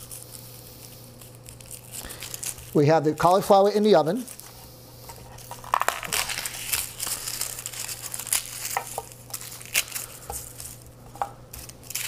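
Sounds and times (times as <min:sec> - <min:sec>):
garlic skins crackling: 0:00.0 - 0:12.0
steady low hum: 0:00.0 - 0:12.0.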